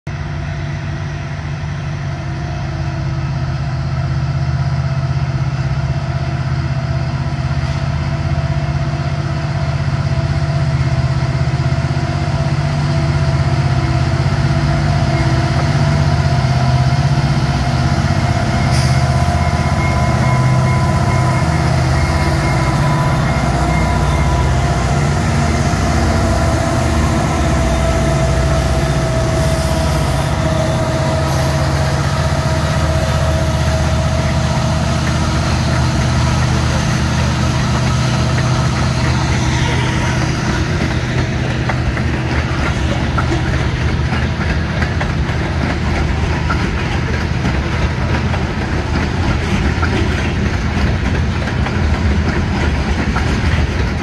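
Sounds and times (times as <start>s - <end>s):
diesel locomotive engine rumble: 0.1s - 54.0s.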